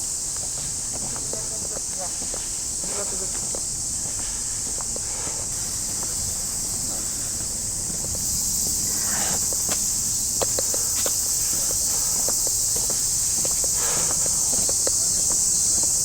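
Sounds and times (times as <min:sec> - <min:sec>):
cicadas buzzing: 0:00.0 - 0:16.0
footsteps on a path: 0:00.0 - 0:16.0.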